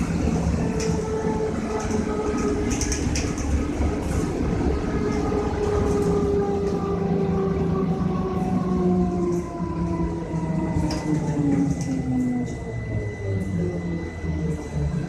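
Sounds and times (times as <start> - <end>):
low road rumble: 0.0 - 15.0.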